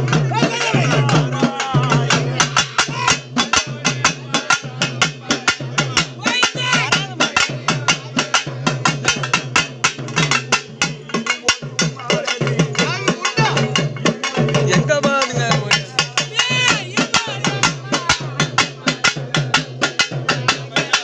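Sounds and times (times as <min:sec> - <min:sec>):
drums played with sticks: 0:00.0 - 0:21.0.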